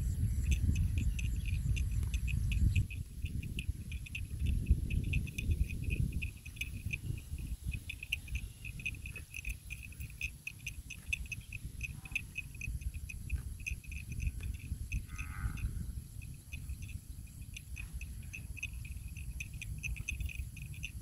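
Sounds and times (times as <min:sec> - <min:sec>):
insects chirping: 0:00.0 - 0:21.0
wind rumble on microphone: 0:00.0 - 0:21.0.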